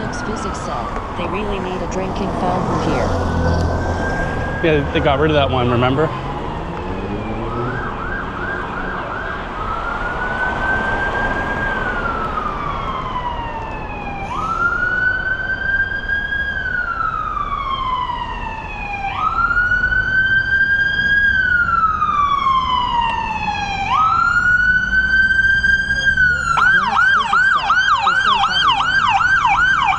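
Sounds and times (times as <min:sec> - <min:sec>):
emergency siren wailing: 0:00.0 - 0:29.9
siren yelping: 0:00.0 - 0:29.9.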